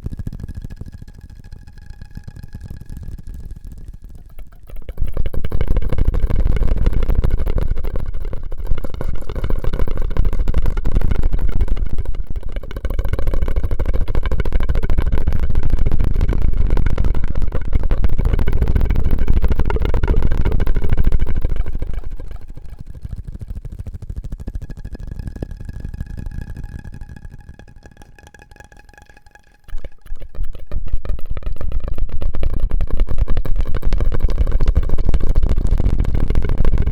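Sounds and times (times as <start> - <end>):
mouth and drinking straw sounds: 0.6 - 36.9.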